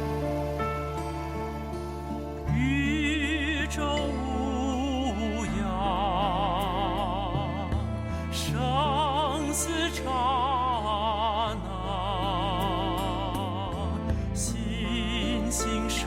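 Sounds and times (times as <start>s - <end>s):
melody with wide vibrato: 0.0s - 13.8s
long-held bass notes: 0.0s - 16.0s.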